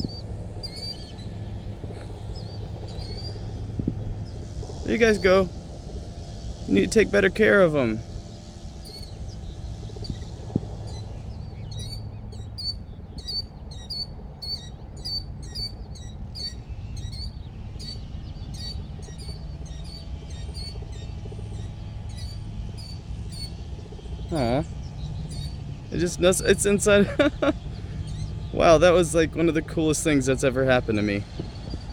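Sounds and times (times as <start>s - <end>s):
small bird chirping: 0.0s - 31.9s
steady low hum: 0.0s - 31.9s.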